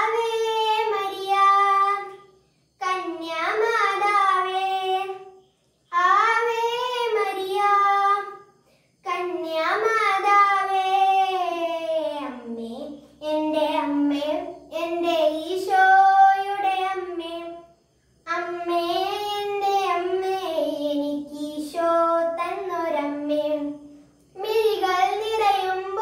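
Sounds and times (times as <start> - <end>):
boy singing a hymn unaccompanied: 0.0 - 26.0.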